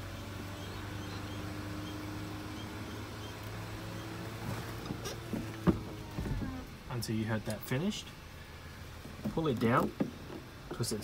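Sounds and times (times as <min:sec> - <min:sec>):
convertible roof motor hum: 0:00.0 - 0:11.0.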